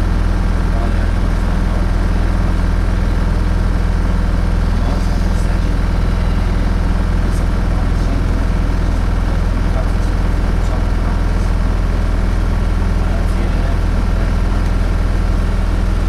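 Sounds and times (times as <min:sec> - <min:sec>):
bus diesel engine droning: 0:00.0 - 0:16.0
engine cooling fan rushing: 0:00.0 - 0:16.0.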